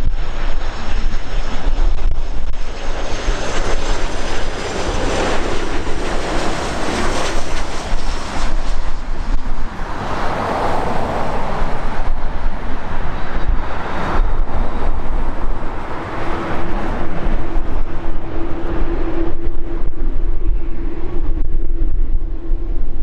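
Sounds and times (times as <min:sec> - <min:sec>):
jet engine whine: 0:00.0 - 0:23.0
jet engines rushing: 0:00.0 - 0:23.0
wind on microphone: 0:00.0 - 0:23.0.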